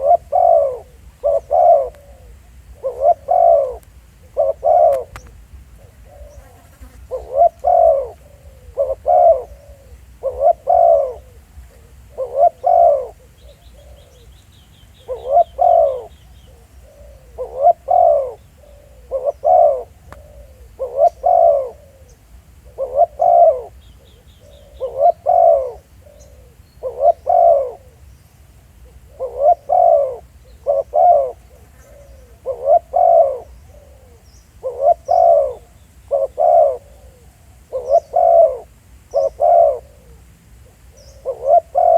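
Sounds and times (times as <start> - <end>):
dove cooing: 0.0 - 28.1, 28.7 - 41.9.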